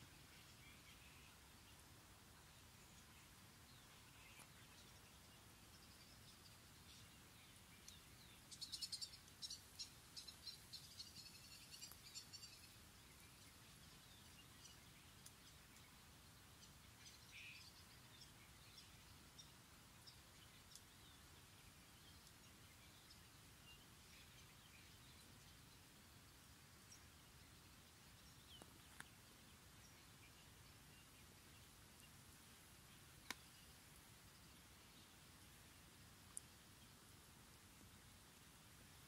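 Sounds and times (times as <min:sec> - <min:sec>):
faint outdoor hiss: 0:00.0 - 0:39.0
songbird chirping: 0:00.0 - 0:39.0.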